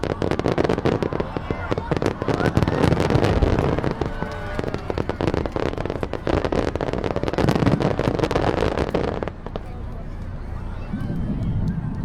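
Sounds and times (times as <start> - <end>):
fireworks crackling and popping: 0.0 - 10.4
fireworks low booms: 0.0 - 12.0.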